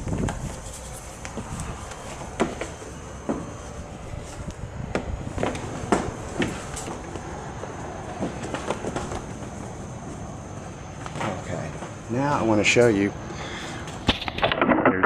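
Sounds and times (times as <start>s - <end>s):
steady background hiss: 0.0s - 14.8s.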